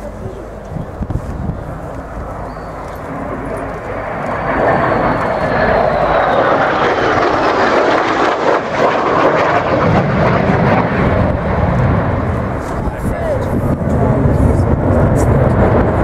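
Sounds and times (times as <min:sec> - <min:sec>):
deep rumble: 0:00.0 - 0:16.0
high whine: 0:00.0 - 0:16.0
jet engine roar: 0:00.0 - 0:16.0.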